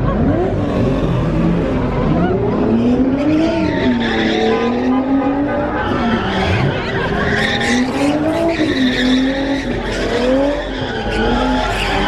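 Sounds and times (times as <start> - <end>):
car engine revving: 0.0 - 12.0
crowd voices: 0.0 - 12.0.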